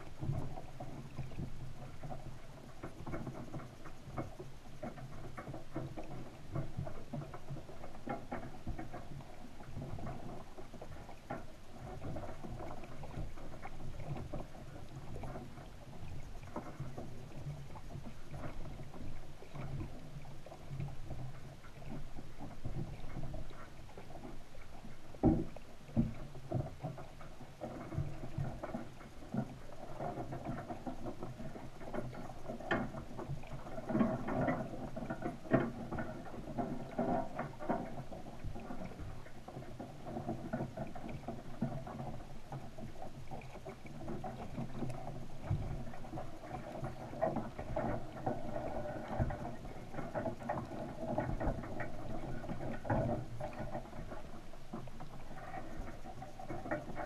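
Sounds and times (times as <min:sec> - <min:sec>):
low underwater rumble: 0:00.0 - 0:57.0
underwater clicks and knocks: 0:00.0 - 0:57.0.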